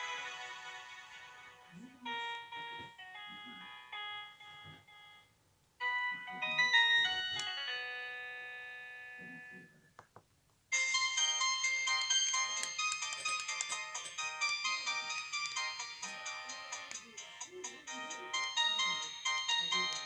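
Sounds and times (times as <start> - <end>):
bright busy ringtone: 0.0 - 9.8, 10.7 - 20.0
chiming phone melody: 0.0 - 9.8, 10.7 - 20.0.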